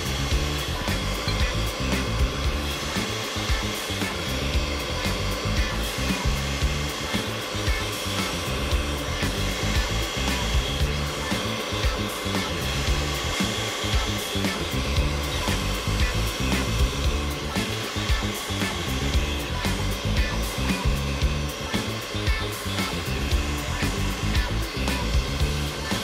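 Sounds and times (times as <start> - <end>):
background music: 0.0 - 26.0
food processor motor whine: 0.0 - 26.0.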